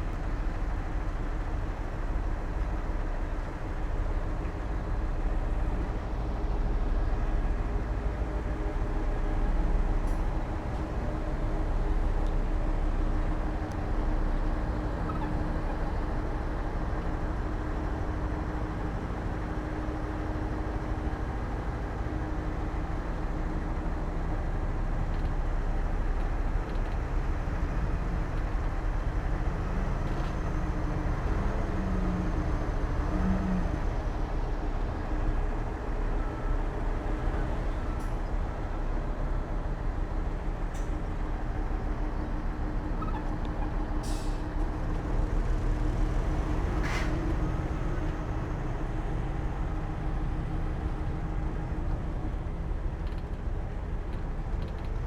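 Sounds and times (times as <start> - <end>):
diesel earthmoving machinery running: 0.0 - 55.0.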